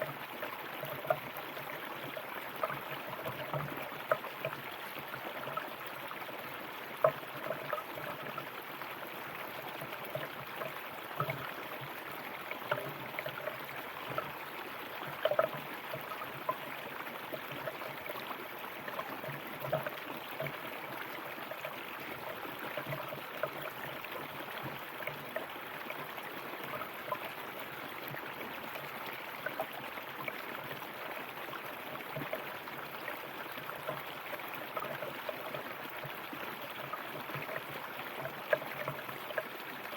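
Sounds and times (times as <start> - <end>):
river water running over stones: 0.0 - 39.9
water splashes and gurgles: 0.0 - 39.9.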